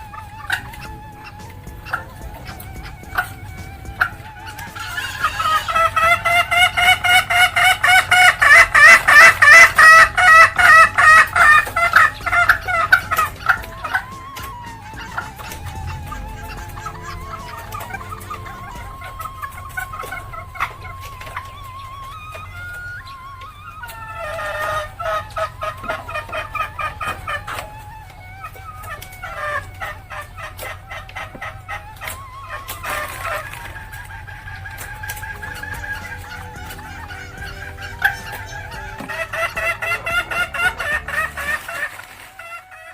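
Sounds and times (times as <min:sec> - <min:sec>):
hen cackling: 0:00.0 - 0:42.9.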